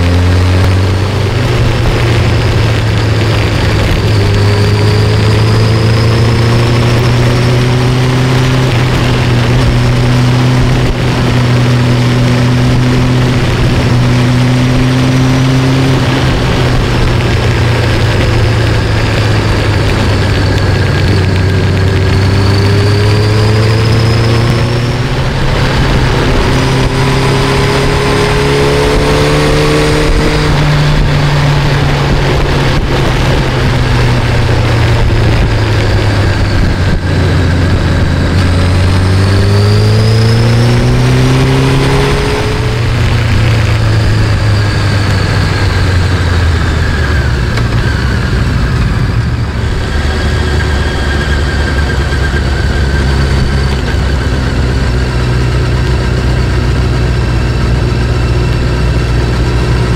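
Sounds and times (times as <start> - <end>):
motorcycle engine running: 0.0 - 59.9
wind rushing past: 0.8 - 52.6.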